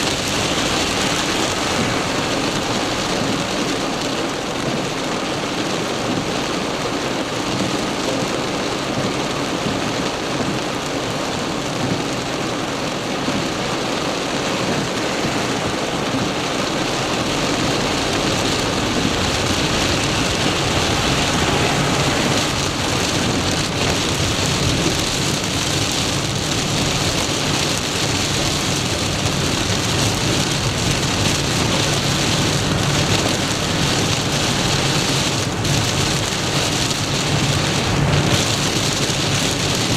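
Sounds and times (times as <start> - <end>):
heavy rain drumming on car: 0.0 - 39.9.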